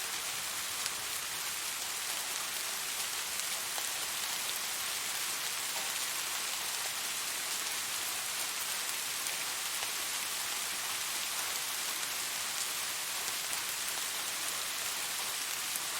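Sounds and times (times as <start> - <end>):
raindrops pattering on surface: 0.0 - 15.9
steady rainfall: 0.0 - 15.9.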